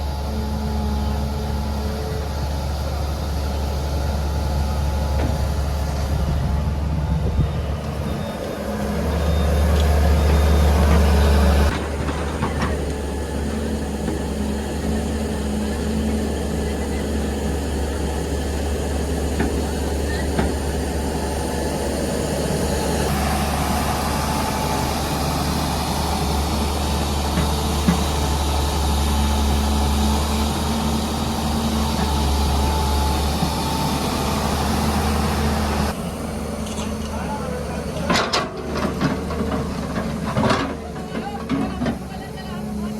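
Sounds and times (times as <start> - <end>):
diesel engine humming: 0.0 - 42.9.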